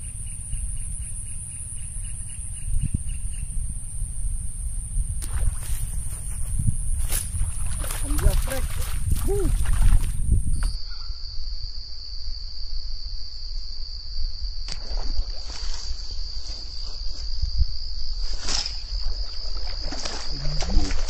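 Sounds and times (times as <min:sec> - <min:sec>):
wind rumble on microphone: 0:00.0 - 0:10.8, 0:12.0 - 0:21.0
insects chirring: 0:00.0 - 0:21.0.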